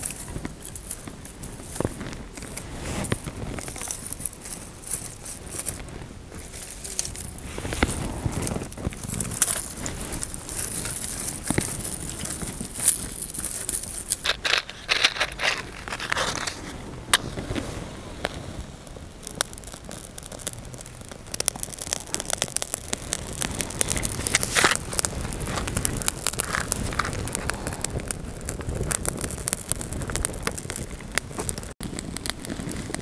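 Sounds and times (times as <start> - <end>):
dry grass rustling and crackling: 0.0 - 33.0.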